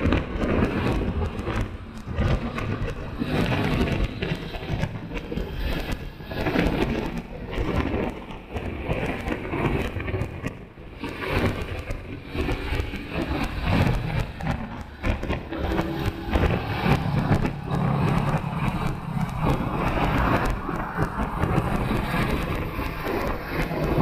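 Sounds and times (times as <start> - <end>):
road and traffic noise: 0.0 - 24.0
wind rushing over microphone: 0.0 - 24.0.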